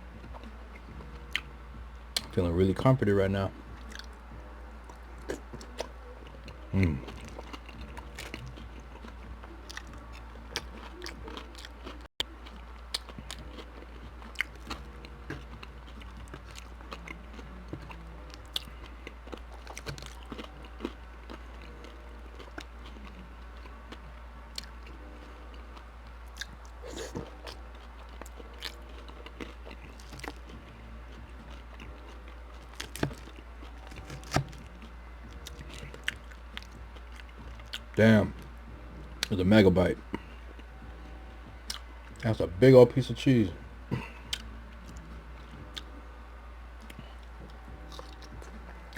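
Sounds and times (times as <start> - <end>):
person chewing food: 0.1 - 2.3, 3.5 - 39.3, 40.0 - 42.2, 43.9 - 46.0, 46.8 - 48.9.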